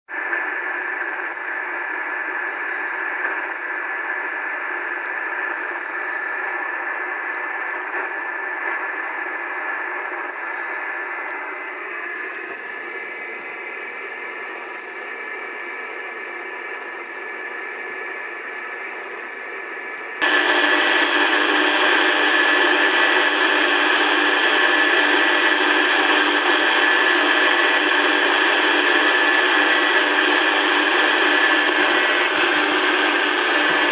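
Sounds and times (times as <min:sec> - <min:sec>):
radio interference hiss: 0:00.1 - 0:33.9.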